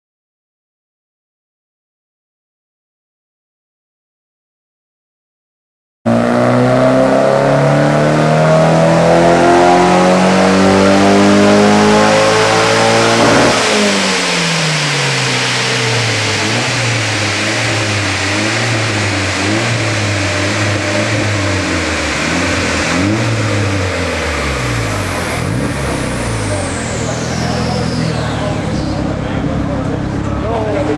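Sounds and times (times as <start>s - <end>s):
car engine revving on dyno: 6.1s - 30.9s.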